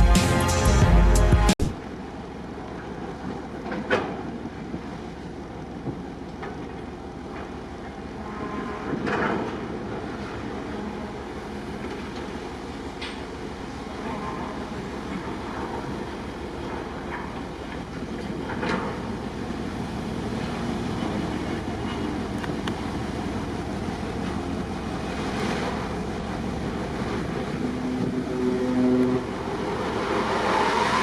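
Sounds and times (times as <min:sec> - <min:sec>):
boat engine rumble: 0:00.0 - 0:31.0.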